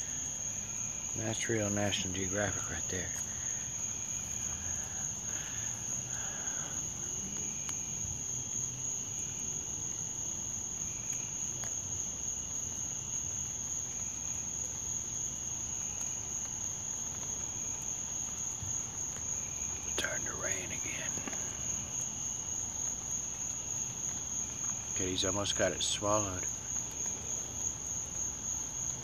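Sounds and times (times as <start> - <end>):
crickets chorus: 0.0 - 29.0
faint insect trills: 0.0 - 29.0.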